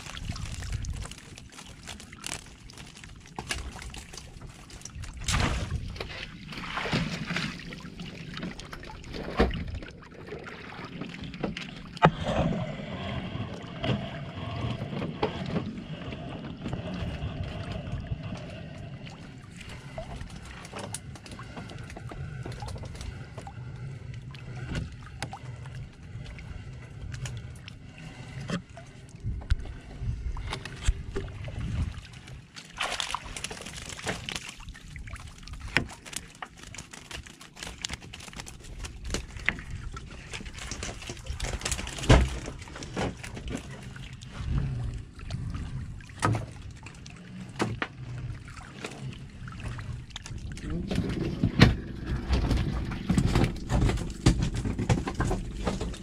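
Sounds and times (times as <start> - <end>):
water splashing and sloshing: 0.0 - 56.0.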